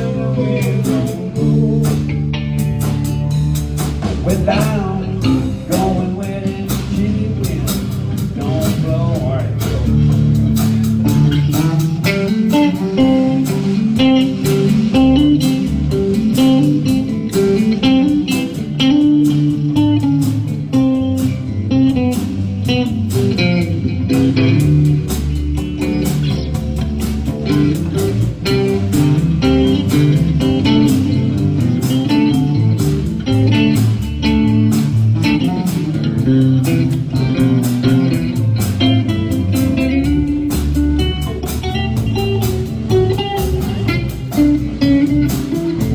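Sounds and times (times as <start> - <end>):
acoustic guitar: 0.0 - 45.9
bass guitar: 0.0 - 45.9
electric guitar: 0.0 - 45.9
steady drum beat: 0.0 - 45.9.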